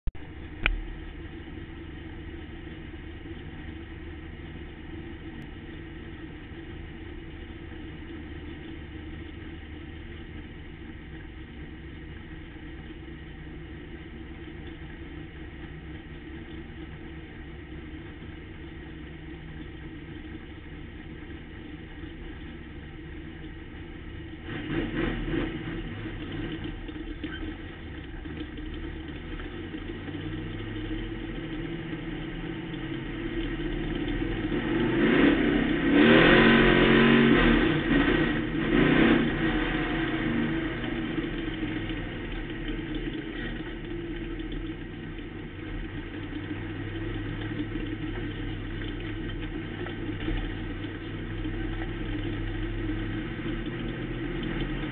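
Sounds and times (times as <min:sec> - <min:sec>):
race car engine idling: 0:00.1 - 0:54.9.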